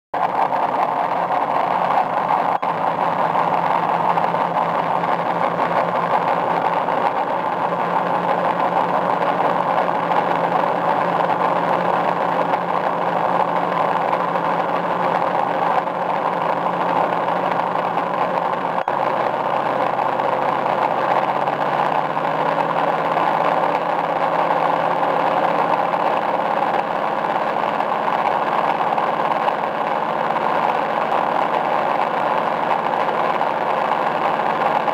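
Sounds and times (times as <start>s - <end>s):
engine running steadily: 0.2s - 34.9s.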